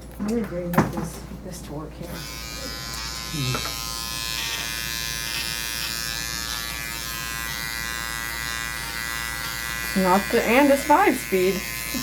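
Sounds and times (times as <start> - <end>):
electric clippers humming: 2.0 - 12.0.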